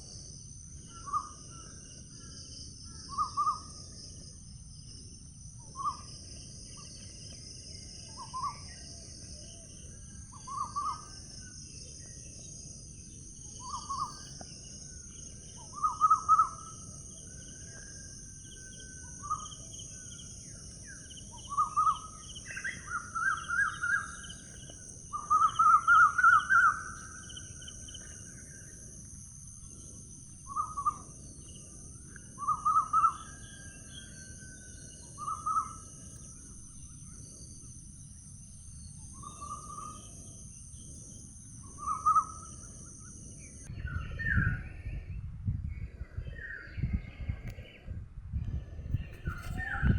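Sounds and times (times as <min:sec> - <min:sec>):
high-pitched insect drone: 0:00.0 - 0:44.8.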